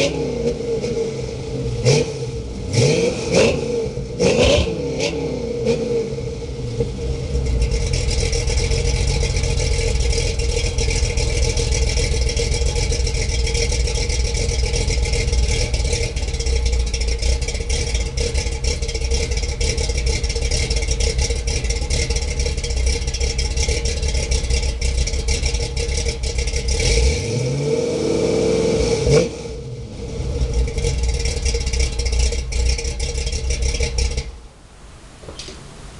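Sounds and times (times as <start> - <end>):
car engine running: 0.0 - 34.6.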